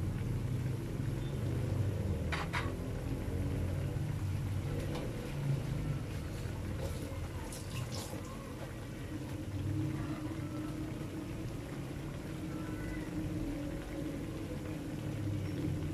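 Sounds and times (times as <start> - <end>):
sauce simmering with bubbling: 0.0 - 15.9.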